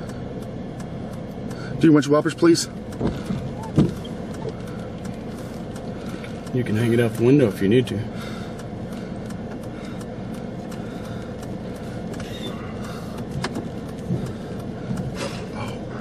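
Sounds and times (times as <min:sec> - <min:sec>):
rain and debris tapping: 0:00.0 - 0:16.0.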